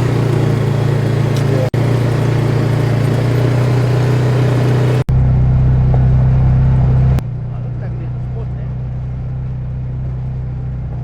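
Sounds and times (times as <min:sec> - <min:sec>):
single-cylinder engine running: 0:00.0 - 0:11.0.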